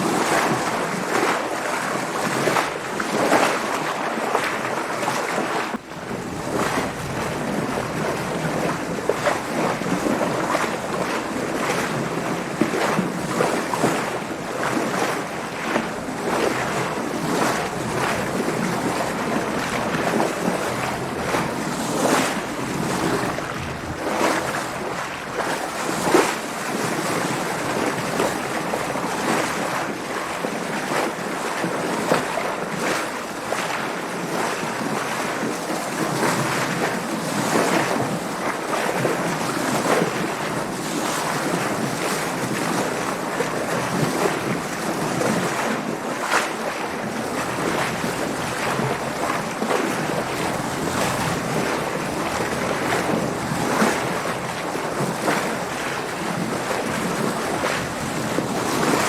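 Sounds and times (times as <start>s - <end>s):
water washing around a boat: 0.0s - 59.0s
wind: 0.0s - 59.0s.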